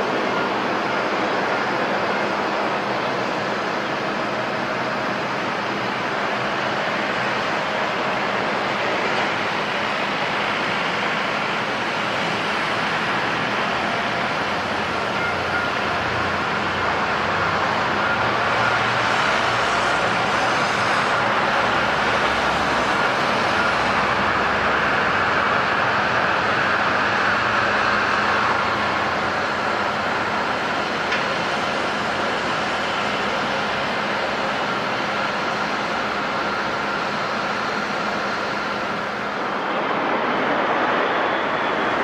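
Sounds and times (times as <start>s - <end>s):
distant airliner engines: 0.0s - 42.0s.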